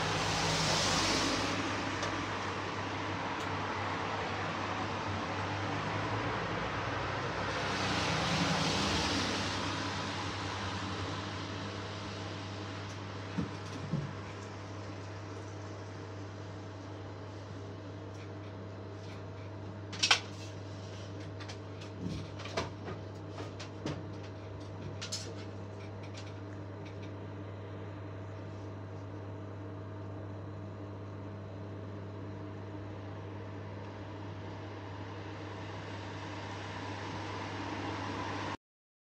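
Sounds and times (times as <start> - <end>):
rotisserie grill humming: 0.0 - 38.6.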